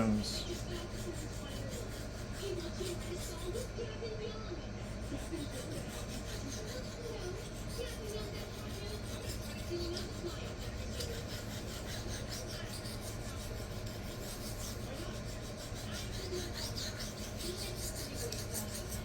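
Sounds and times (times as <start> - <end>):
knife rasping on sharpening stone: 0.0 - 3.7, 4.8 - 19.0.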